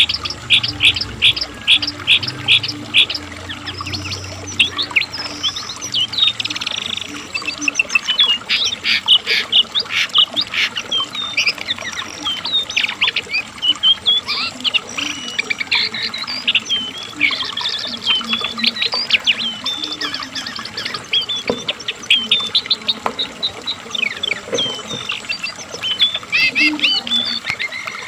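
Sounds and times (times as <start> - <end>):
songbird singing chirps and trills: 0.0 - 28.0.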